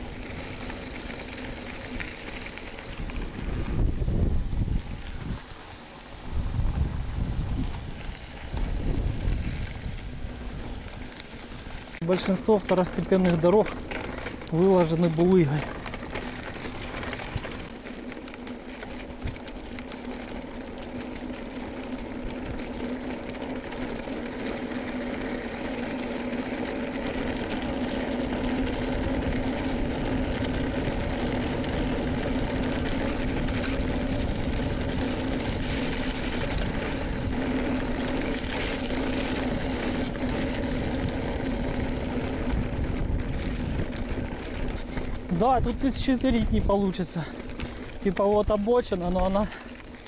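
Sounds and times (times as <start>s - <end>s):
bicycle rattling over cobblestones: 0.0s - 50.0s.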